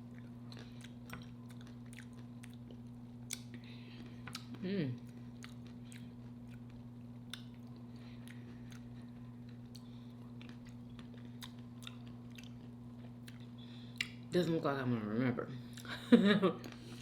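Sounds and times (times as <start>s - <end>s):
low electrical hum: 0.0s - 17.0s
close chewing: 0.1s - 14.1s.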